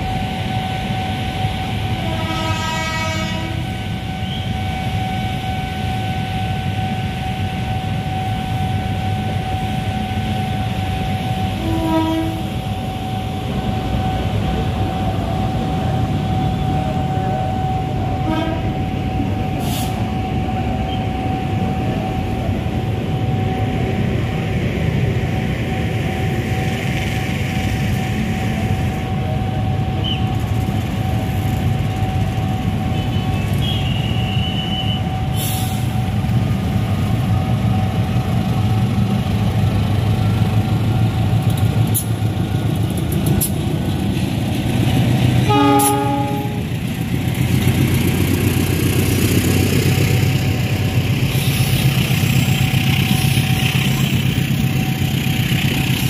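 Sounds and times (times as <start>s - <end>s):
diesel locomotive running under load: 0.0s - 56.0s
electric train rolling past: 0.0s - 56.0s.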